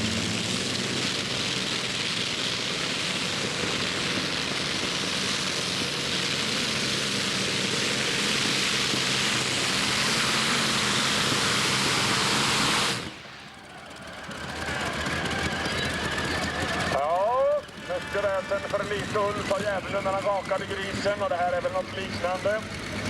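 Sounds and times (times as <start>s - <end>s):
tractor engine howling: 0.0s - 23.0s.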